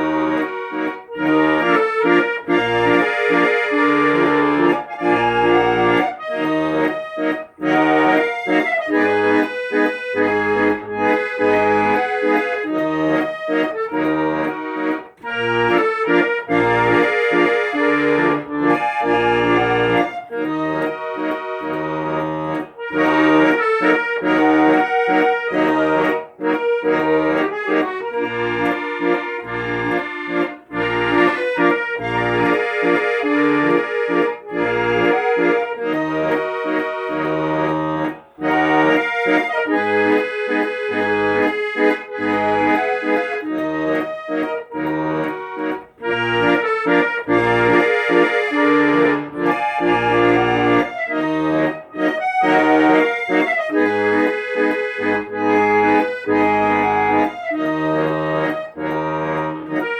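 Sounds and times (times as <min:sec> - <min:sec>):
instrumental music: 0:00.0 - 0:59.9.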